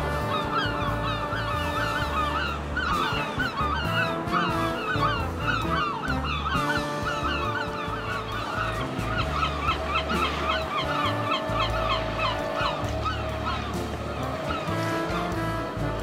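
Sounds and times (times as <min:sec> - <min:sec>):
background music with bass line: 0:00.0 - 0:16.0
gulls squawking: 0:00.0 - 0:16.0.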